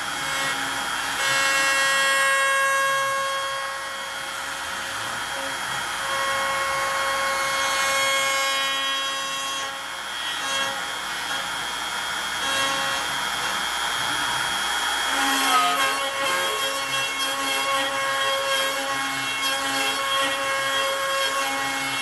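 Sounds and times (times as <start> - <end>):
router cutting wood: 0.0 - 22.0
router motor whine: 0.0 - 22.0.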